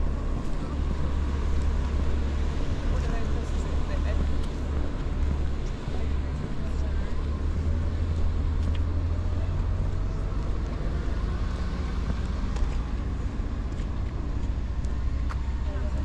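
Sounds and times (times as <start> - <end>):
car engine drone: 0.0 - 16.0
road noise: 0.0 - 16.0.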